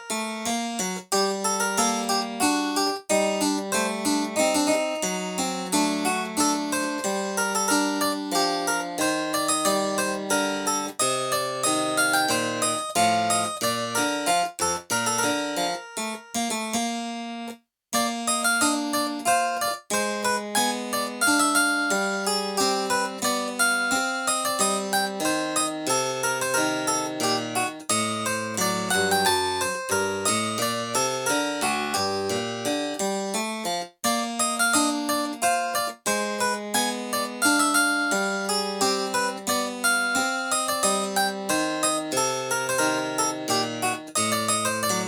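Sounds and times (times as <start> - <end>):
harpsichord sound on digital piano: 0.1 - 17.5, 18.1 - 45.0.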